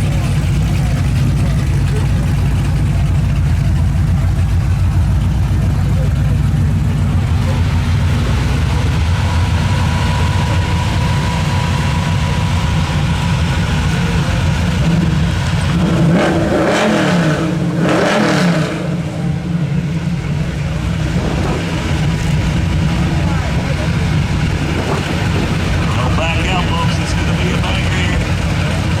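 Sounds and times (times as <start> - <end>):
drag racing engines rumbling: 0.0 - 29.0
engines at full throttle: 0.0 - 29.0.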